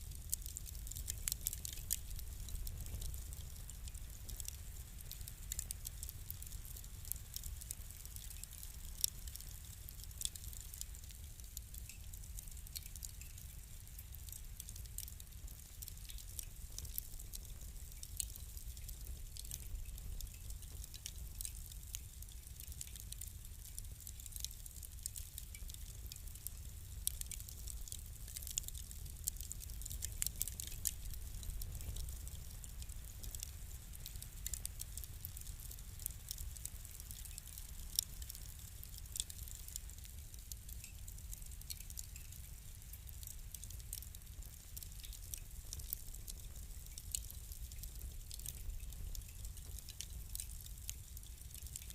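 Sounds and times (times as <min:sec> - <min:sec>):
fire crackling and popping: 0:00.0 - 0:51.9
low rumble of burning fire: 0:00.0 - 0:51.9.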